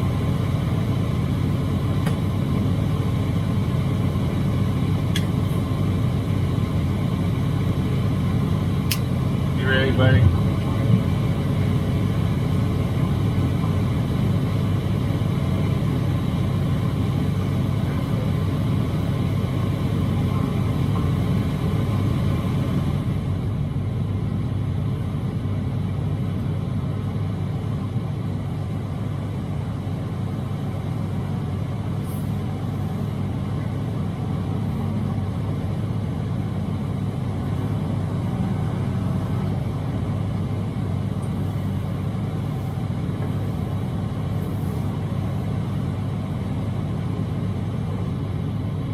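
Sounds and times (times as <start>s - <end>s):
diesel truck engine droning: 0.0s - 48.9s
road and tyre noise: 0.0s - 48.9s.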